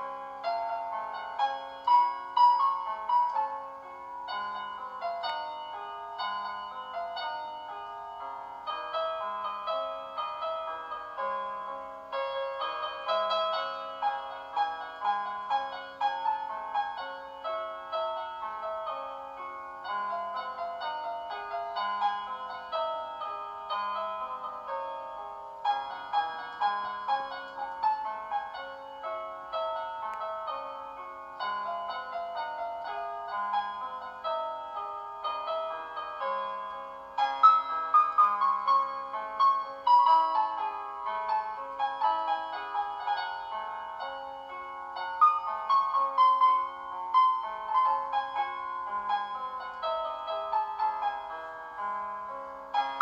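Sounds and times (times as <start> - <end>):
gentle piano melody: 0.0 - 53.0.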